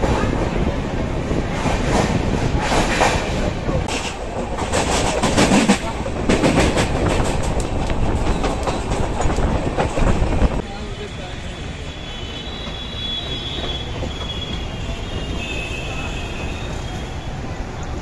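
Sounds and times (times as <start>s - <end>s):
train rolling noise: 0.0s - 18.0s.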